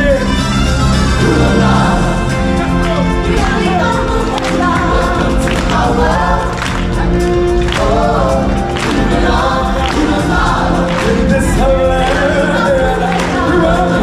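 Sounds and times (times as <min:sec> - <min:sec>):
choir singing over a band: 0:00.9 - 0:14.0.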